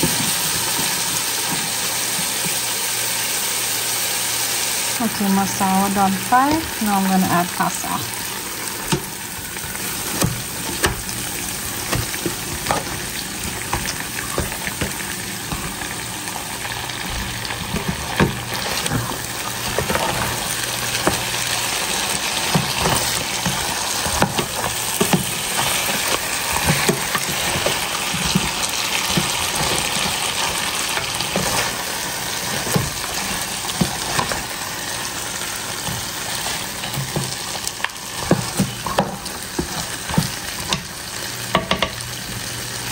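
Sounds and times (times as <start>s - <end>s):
fish sizzling in a pot: 0.0s - 42.9s.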